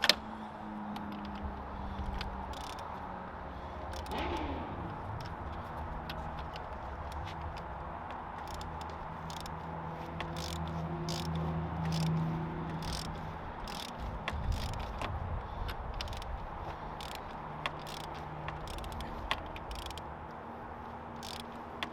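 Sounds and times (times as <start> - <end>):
metallic clicks of hand tools: 0.0 - 0.3, 0.9 - 3.0, 3.8 - 20.1, 21.2 - 21.9
steady low hum: 0.0 - 21.0.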